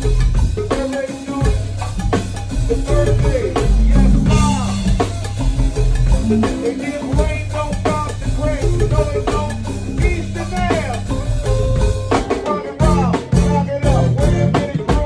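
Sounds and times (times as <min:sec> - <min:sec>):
band playing a groove: 0:00.0 - 0:15.0.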